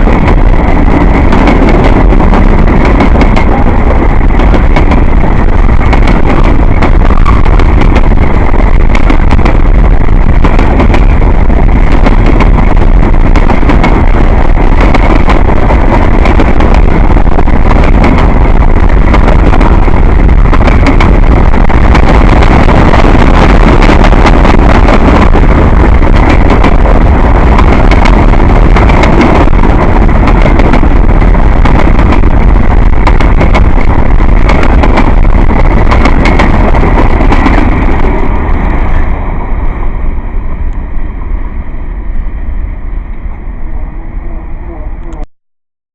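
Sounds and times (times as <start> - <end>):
train cars clicking and clunking: 0.0 - 44.1
train wheels rumbling on rail: 0.0 - 45.3.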